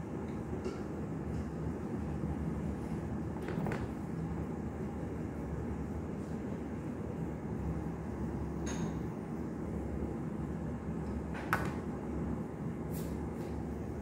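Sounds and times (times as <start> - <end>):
kitchen background rumble: 0.0 - 14.0.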